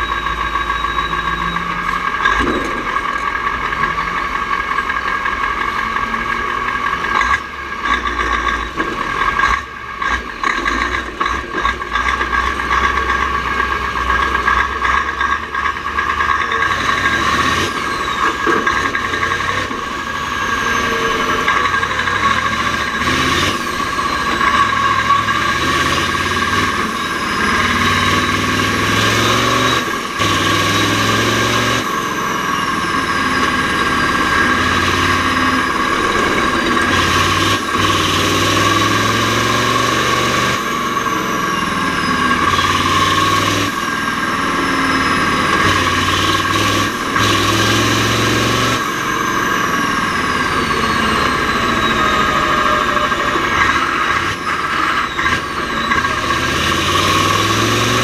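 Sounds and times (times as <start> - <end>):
diesel truck engine running hard: 0.0 - 58.0.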